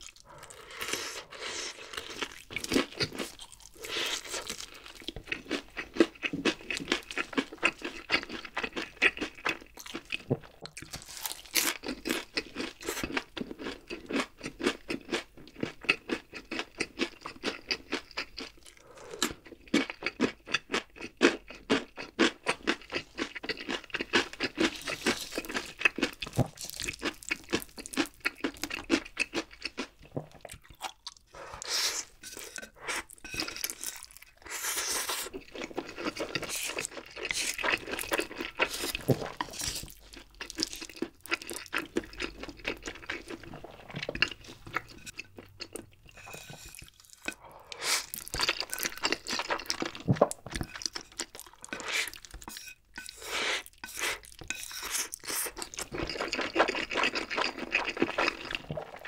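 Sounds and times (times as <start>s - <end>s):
crunching fried chicken: 1.2s - 31.5s, 33.0s - 52.5s, 53.6s - 59.0s.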